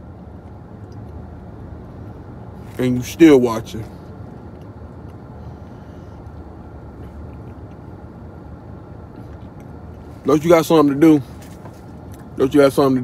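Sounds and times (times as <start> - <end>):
low rumble inside car: 0.0 - 13.0.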